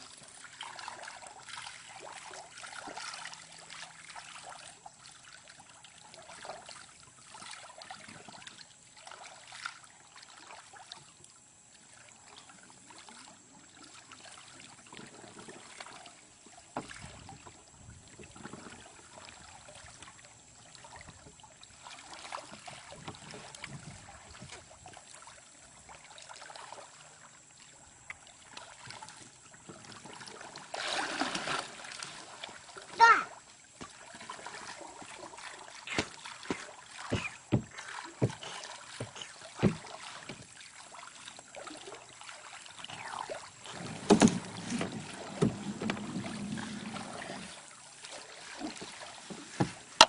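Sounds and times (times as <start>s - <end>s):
small water splashes: 0.0s - 50.0s
water sloshing around wading legs: 0.0s - 50.0s.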